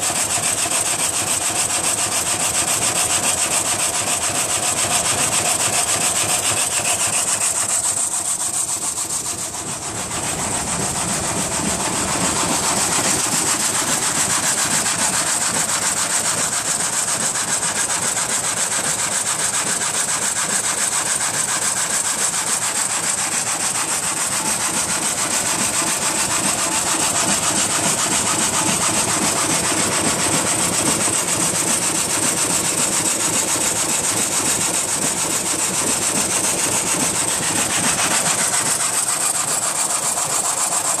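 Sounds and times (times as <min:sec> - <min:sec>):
frame saw rasping through wood: 0:00.0 - 0:41.0.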